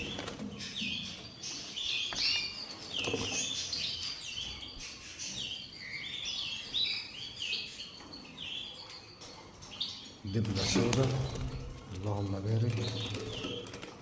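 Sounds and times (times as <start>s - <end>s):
canary fledglings chirping: 0.0s - 14.0s.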